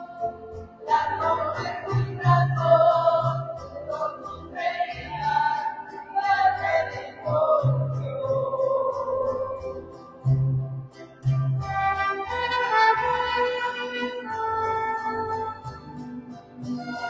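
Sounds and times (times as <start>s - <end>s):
instrumental accompaniment: 0.0s - 17.0s
voices singing church music: 0.0s - 17.0s.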